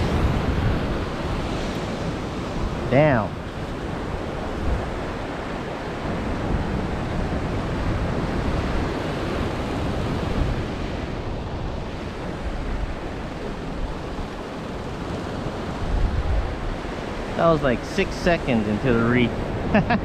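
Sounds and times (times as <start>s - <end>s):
wind buffeting microphone: 0.0s - 17.8s
ocean surf breaking on rocks: 0.0s - 20.0s.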